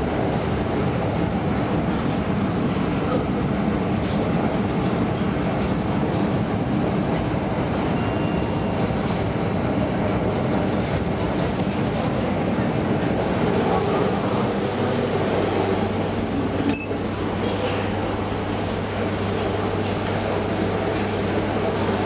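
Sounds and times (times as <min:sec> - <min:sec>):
elevator car rumbling: 0:00.0 - 0:22.0.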